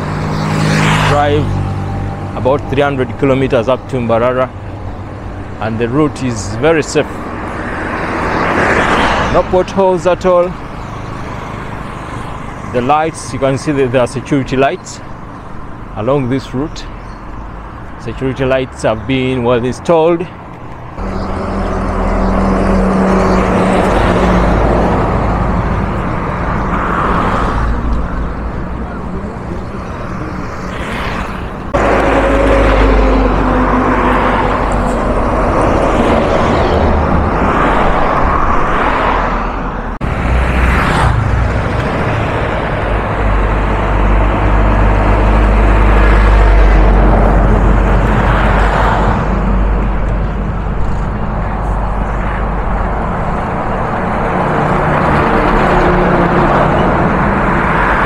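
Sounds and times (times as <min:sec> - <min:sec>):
heavy highway traffic: 0:00.0 - 0:58.0.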